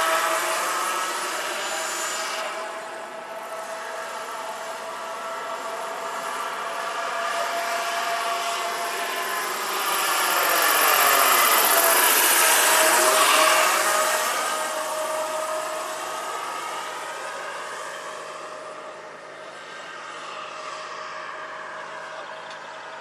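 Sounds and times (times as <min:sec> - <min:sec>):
model helicopter turbine and rotors: 0:00.0 - 0:23.0.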